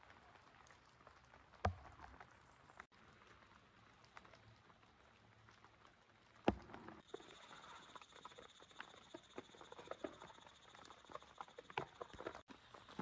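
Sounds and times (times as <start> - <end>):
faint rain: 0.0 - 13.0.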